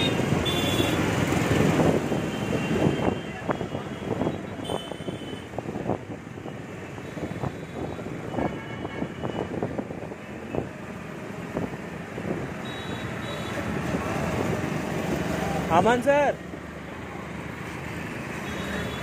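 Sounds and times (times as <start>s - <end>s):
city traffic: 0.0s - 19.0s
scooter engine and road noise: 0.0s - 19.0s.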